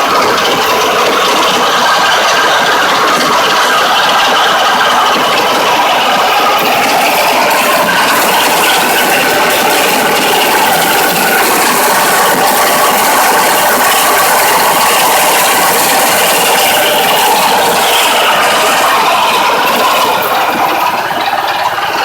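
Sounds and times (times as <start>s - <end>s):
harvesting machine mechanical clatter: 0.0s - 22.0s.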